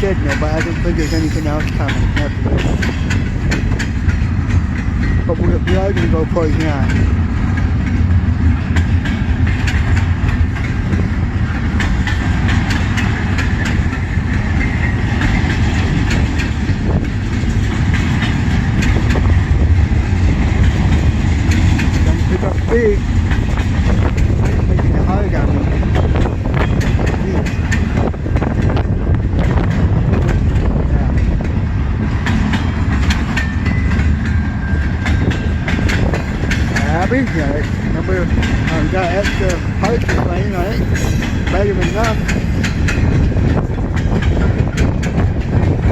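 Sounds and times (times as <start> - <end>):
train rumble: 0.0 - 45.9
wheels clicking over rail joints: 0.0 - 45.9.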